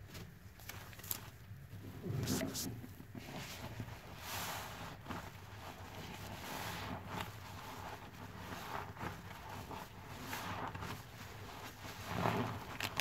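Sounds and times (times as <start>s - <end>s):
wet sponge squelching in suds: 2.2s - 13.0s.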